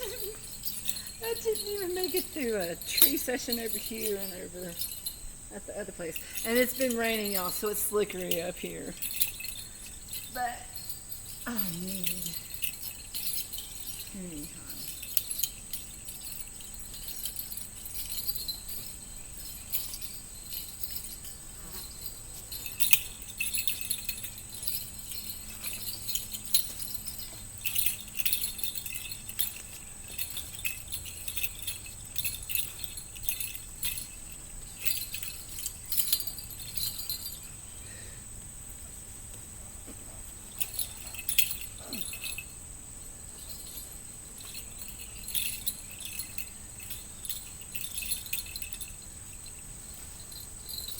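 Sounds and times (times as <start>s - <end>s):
high-pitched insect drone: 0.0s - 38.3s, 40.4s - 50.9s
light metallic jingling: 0.0s - 50.9s.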